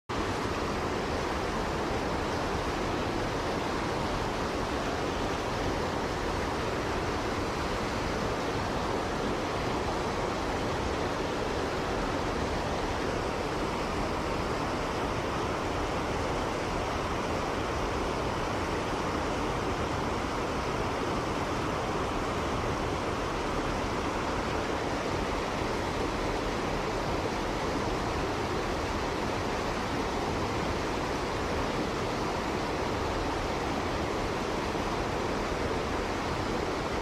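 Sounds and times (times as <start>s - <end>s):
stream rushing over rocks: 0.1s - 37.0s.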